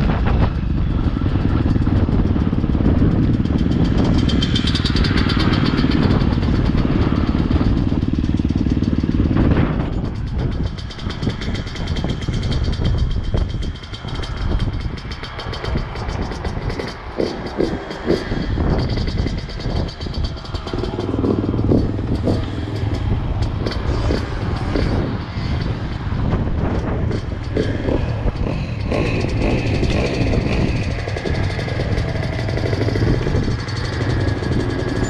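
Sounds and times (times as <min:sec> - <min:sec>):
knocks and clatter: 0:00.0 - 0:35.0
motorcycle engine idling: 0:00.0 - 0:35.0.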